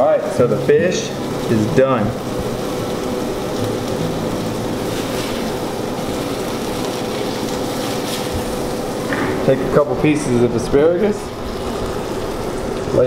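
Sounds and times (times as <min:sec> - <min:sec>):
fan whirring: 0:00.0 - 0:13.0.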